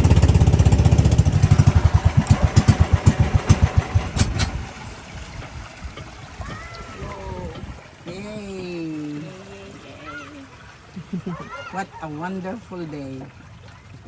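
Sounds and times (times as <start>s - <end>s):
boat engine slowing to a stop: 0.0s - 12.0s.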